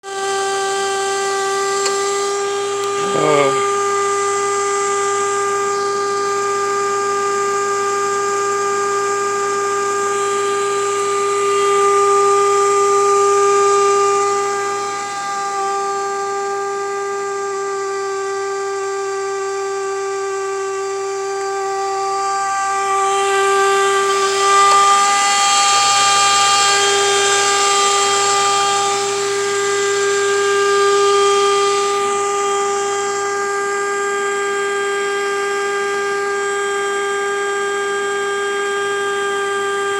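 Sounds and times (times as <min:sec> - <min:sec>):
steady high-pitched whine: 0:00.0 - 0:39.9.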